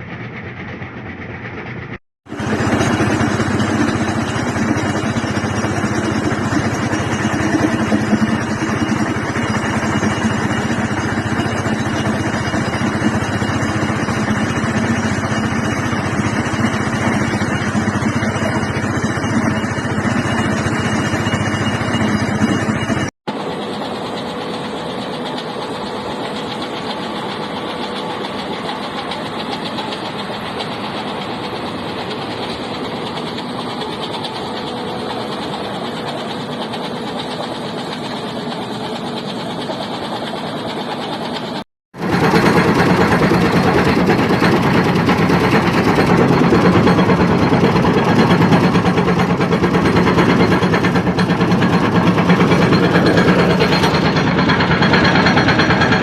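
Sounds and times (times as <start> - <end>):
construction machine engine running: 0.0 - 56.0.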